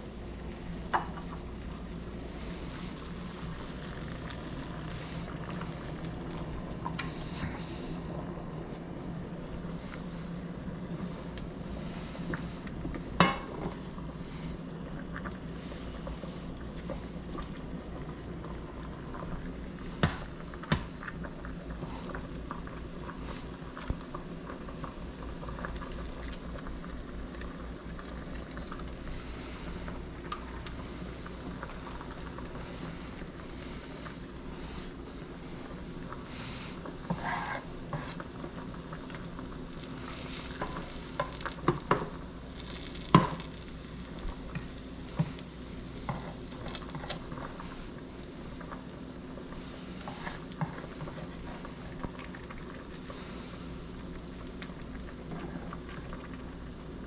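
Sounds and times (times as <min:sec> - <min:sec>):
low steady hum: 0:00.0 - 0:57.0
water boiling in a pot: 0:00.0 - 0:57.0.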